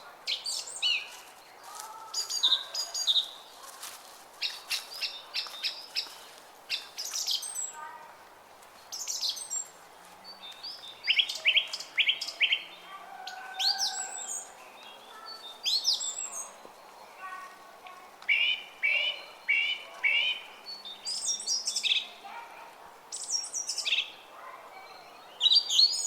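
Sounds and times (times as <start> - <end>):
songbirds singing and chirping: 0.0 - 26.0.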